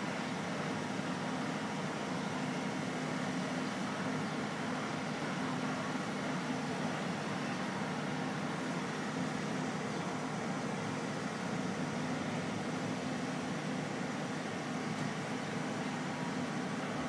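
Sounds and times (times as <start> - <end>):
crane engine running: 0.0 - 17.0.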